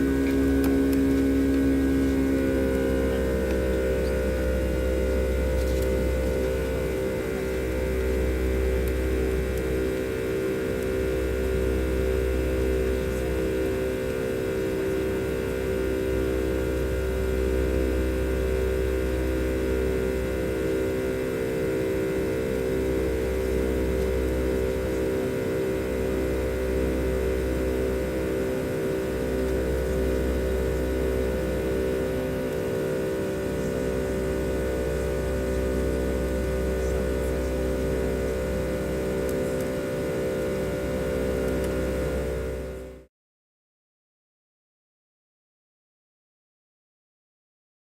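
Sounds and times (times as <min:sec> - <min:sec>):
jet engine cabin drone: 0:00.0 - 0:43.1.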